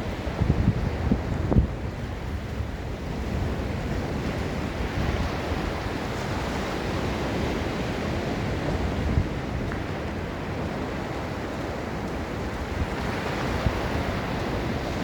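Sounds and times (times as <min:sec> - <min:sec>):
ocean surf on sandy beach: 0:00.0 - 0:15.0
wind buffeting microphone: 0:00.0 - 0:15.0.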